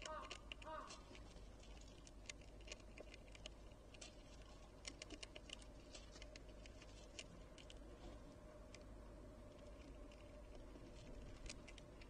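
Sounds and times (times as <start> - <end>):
squirrel cracking seeds: 0.0 - 12.0.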